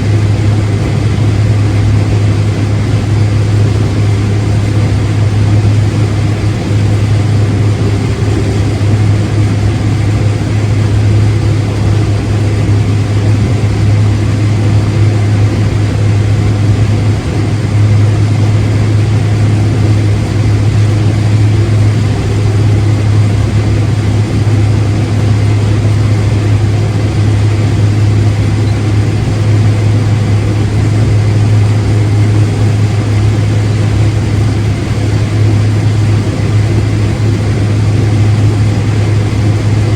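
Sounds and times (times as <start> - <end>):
heavy machine engine droning: 0.0 - 39.9.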